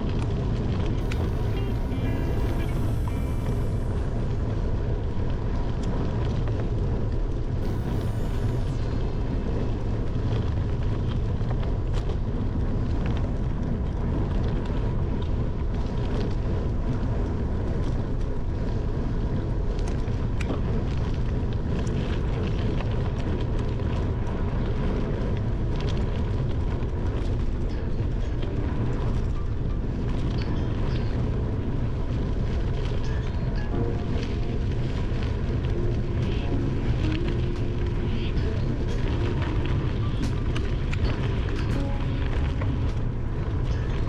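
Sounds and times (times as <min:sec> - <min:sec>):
wind and tyre rumble: 0:00.0 - 0:44.0.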